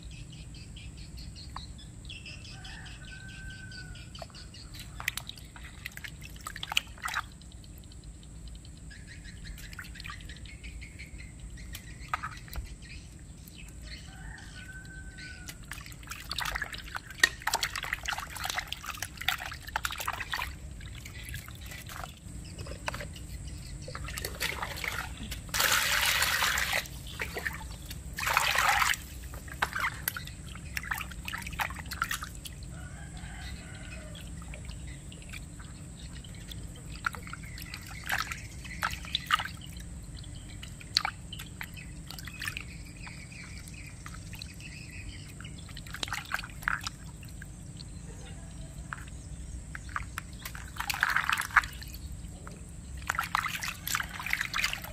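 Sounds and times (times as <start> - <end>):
water splashing in plastic basin: 4.7 - 7.9, 9.5 - 10.6, 11.7 - 12.8, 14.4 - 54.9.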